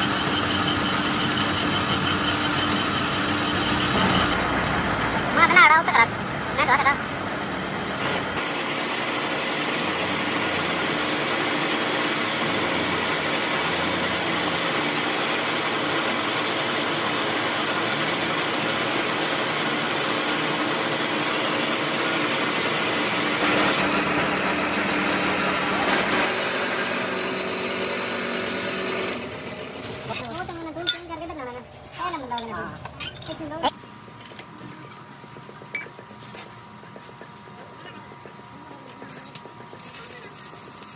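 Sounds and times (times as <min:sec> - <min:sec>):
workshop machine whirring: 0:00.0 - 0:40.9.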